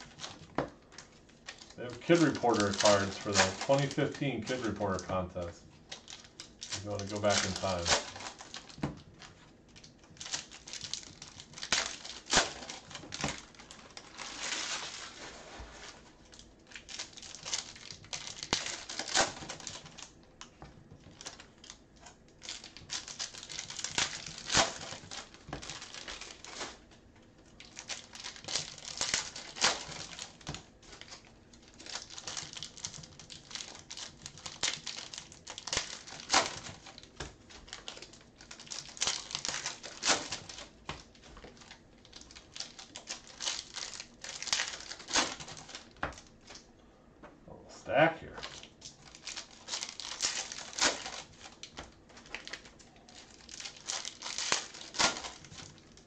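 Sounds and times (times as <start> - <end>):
foil wrappers crinkling and tearing: 0.0 - 46.7, 48.2 - 56.0.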